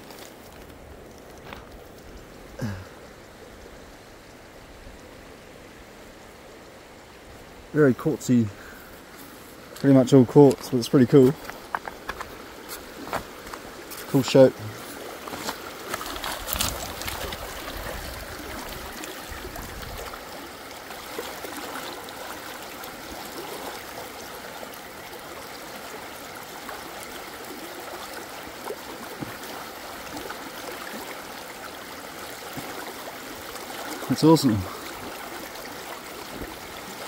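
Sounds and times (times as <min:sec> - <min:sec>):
river water over shingle: 0:00.0 - 0:37.0.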